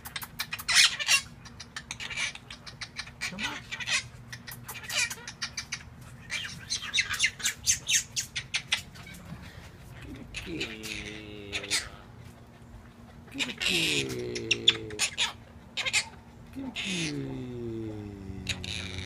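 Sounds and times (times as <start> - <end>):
parrots squawking and chirping: 0.0 - 17.3, 18.4 - 19.0.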